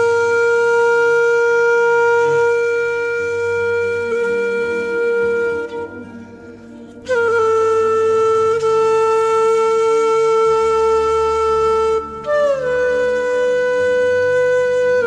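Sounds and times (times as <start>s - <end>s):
soft low drone: 0.0s - 13.4s
flute-like wind instrument: 0.0s - 15.0s.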